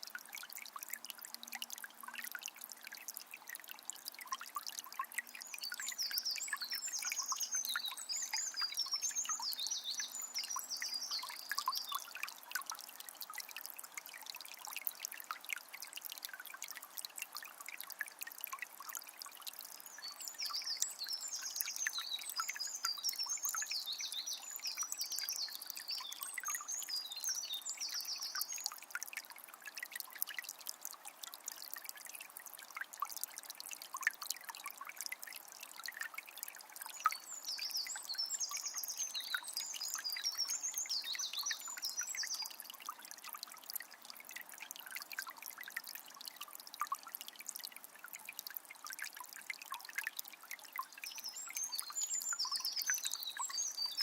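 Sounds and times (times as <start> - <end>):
spring water trickling: 0.0 - 54.0.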